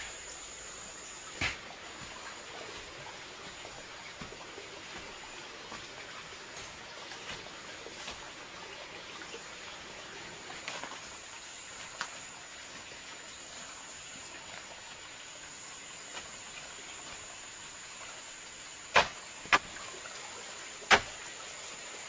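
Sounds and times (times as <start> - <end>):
faint hiss: 0.0 - 22.0.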